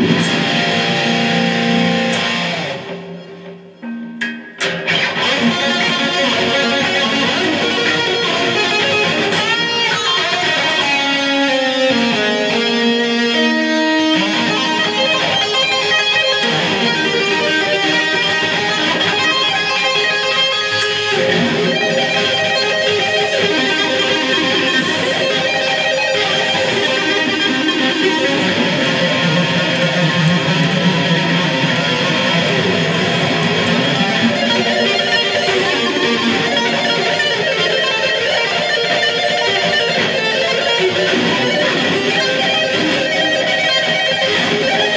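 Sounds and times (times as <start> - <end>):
electric guitar lead with tapping: 0.0 - 44.9.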